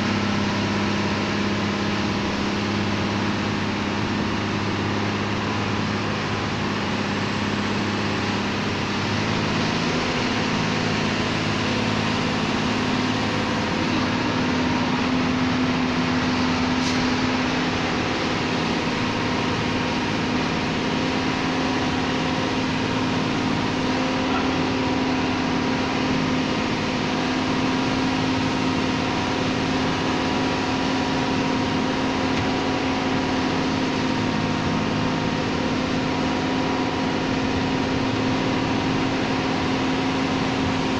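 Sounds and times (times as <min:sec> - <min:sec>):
road noise: 0:00.0 - 0:40.9
truck diesel engine droning: 0:00.0 - 0:40.9.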